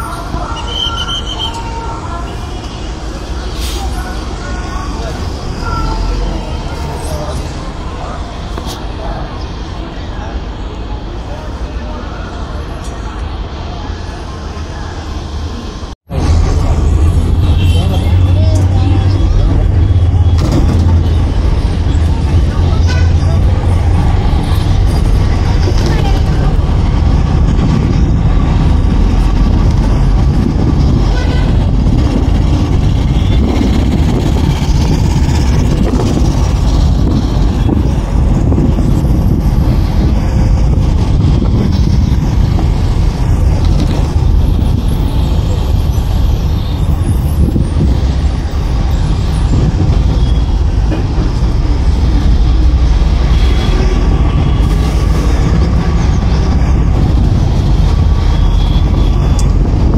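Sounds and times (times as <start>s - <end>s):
bus engine rumble: 0.0s - 59.9s
road and body noise: 0.0s - 59.9s.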